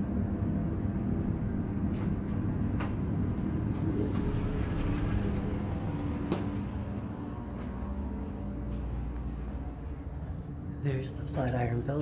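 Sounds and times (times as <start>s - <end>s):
elevator humming and rumbling: 0.0s - 12.0s.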